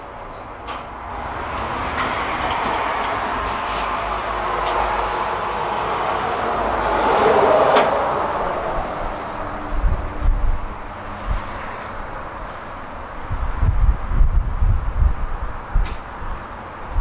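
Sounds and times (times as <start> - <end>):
vehicle passing by: 1.0 - 15.0.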